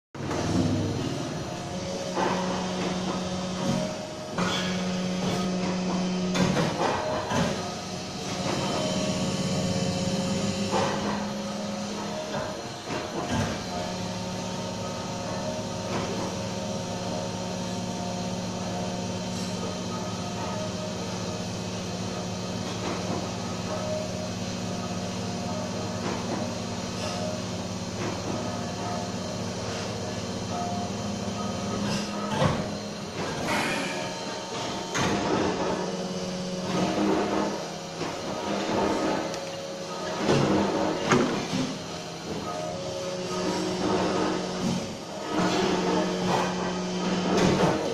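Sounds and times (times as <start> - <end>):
injection molding machine humming: 0.2 - 47.9.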